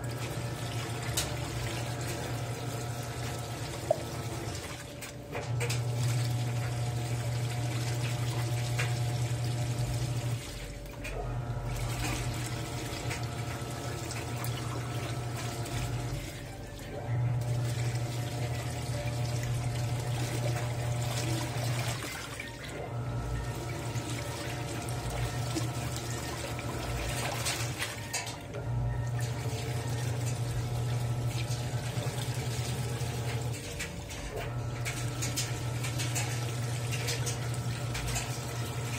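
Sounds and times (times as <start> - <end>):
washing machine motor humming: 0.0 - 38.9
water and clothes sloshing: 0.0 - 38.9.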